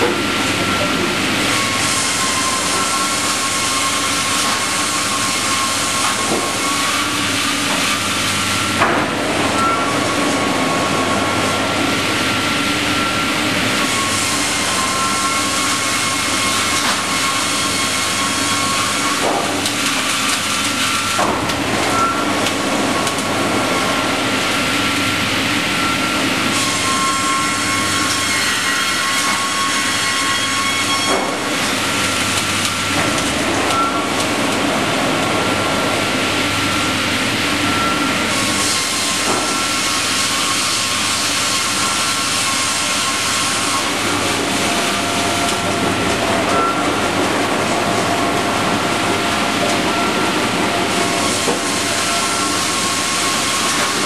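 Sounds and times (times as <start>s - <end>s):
circular saw whine: 0.0s - 19.6s, 21.9s - 33.0s, 34.8s - 54.0s
boards knocking on conveyor: 0.0s - 24.9s, 25.8s - 36.7s, 37.7s - 54.0s.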